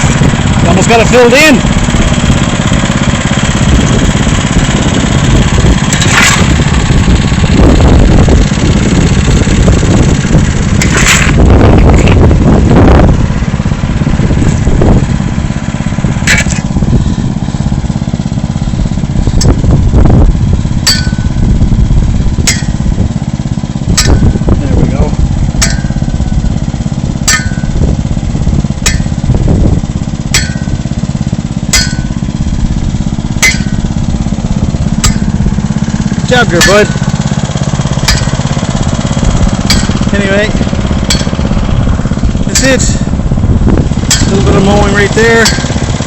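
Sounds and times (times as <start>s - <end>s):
lawn tractor engine running: 0.0s - 46.0s.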